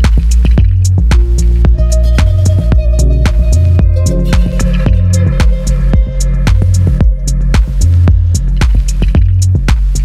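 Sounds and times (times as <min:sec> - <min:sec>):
background music with steady beat: 0:00.0 - 0:10.0
deep bass notes: 0:00.0 - 0:10.0.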